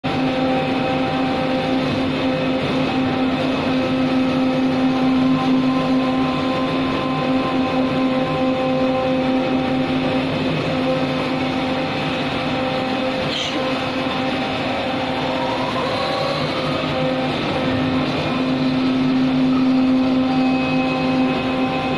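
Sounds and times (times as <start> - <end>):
cutting machine humming: 0.0 - 21.9
machine tone rising in pitch: 0.1 - 21.9.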